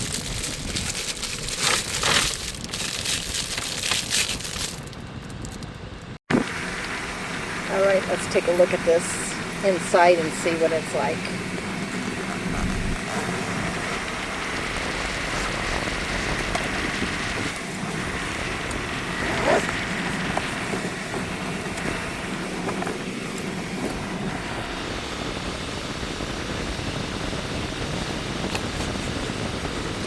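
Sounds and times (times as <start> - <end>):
steady background hiss and rumble: 0.0 - 27.9.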